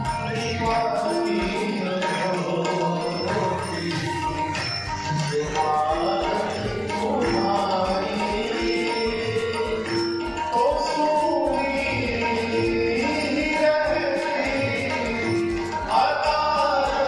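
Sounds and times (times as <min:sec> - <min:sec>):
man singing devotional song: 0:00.0 - 0:17.0
tabla beat: 0:00.0 - 0:17.0.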